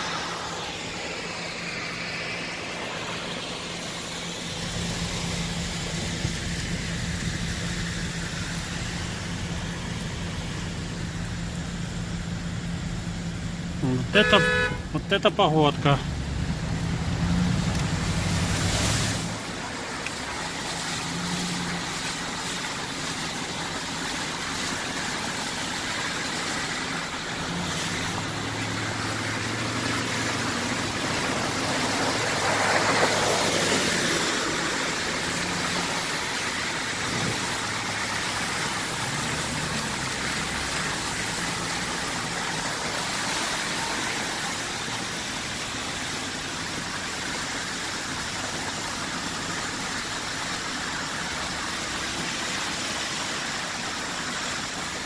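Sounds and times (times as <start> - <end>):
car engine running: 0.0 - 52.4.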